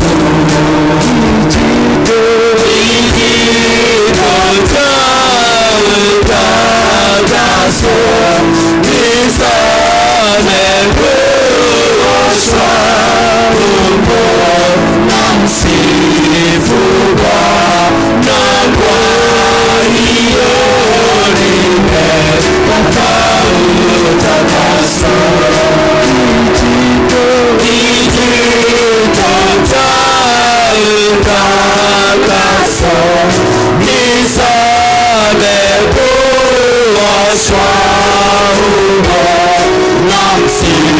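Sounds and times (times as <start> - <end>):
music with singing voices: 0.0 - 40.9.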